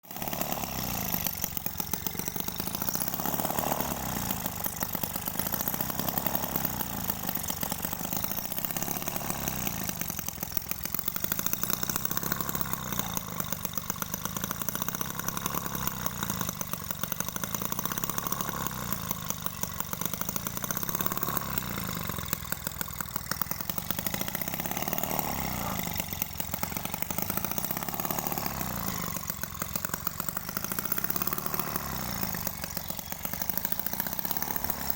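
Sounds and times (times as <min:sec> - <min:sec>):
small two-stroke engine buzzing: 0:00.0 - 0:34.9.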